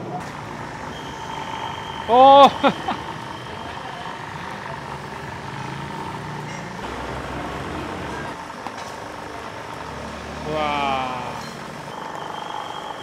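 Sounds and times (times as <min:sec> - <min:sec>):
low engine-like hum: 0:00.0 - 0:13.0
skewers sizzling on grill: 0:00.2 - 0:13.0.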